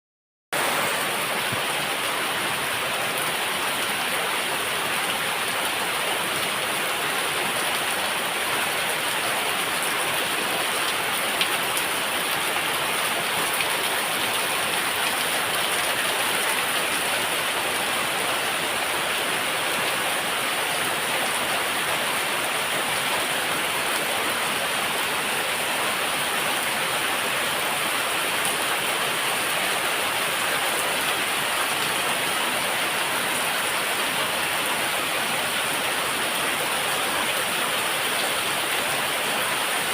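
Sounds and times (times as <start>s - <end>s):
heavy rain pouring: 0.6s - 39.9s.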